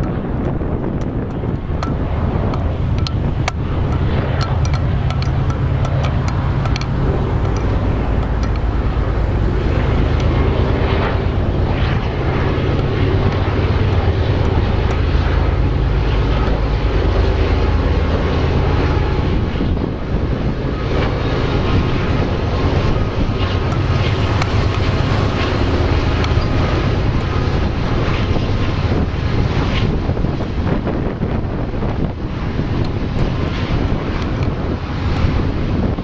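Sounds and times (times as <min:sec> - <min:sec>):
diesel locomotive engines droning: 0:00.0 - 0:36.0.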